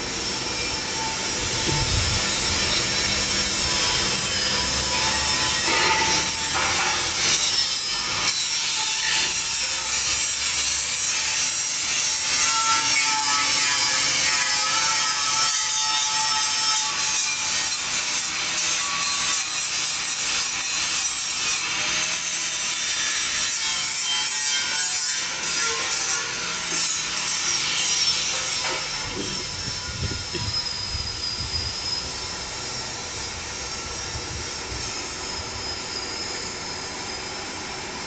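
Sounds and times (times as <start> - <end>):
angle grinder grinding steel: 0.0 - 38.0.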